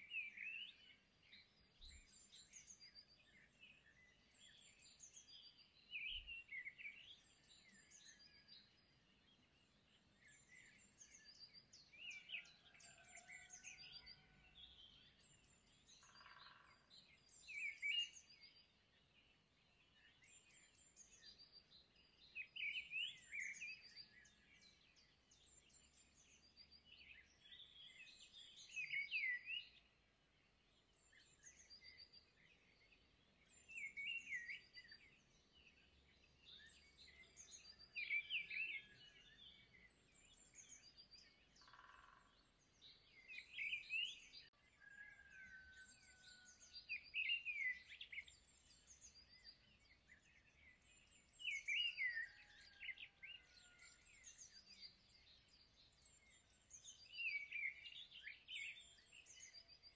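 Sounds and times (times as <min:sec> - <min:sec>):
faint bird chirping: 0:00.0 - 0:59.9.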